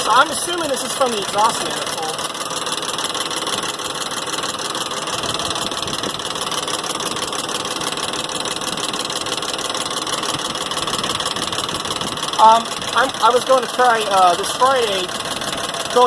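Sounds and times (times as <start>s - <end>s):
car engine idling: 0.0s - 16.0s
rapid steady engine tapping: 0.0s - 16.0s.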